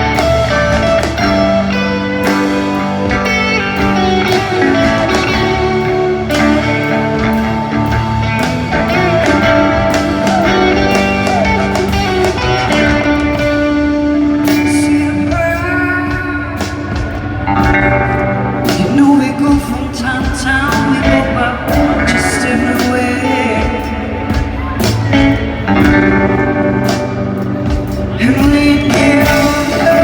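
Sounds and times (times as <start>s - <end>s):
electric guitar: 0.0s - 30.0s
live band playing slow song: 0.0s - 30.0s.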